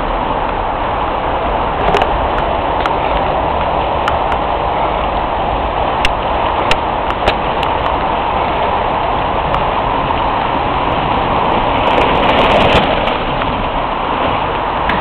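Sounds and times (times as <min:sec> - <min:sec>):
bike tyres crackling over dirt: 0:00.0 - 0:15.0
rain falling in trees: 0:00.0 - 0:15.0.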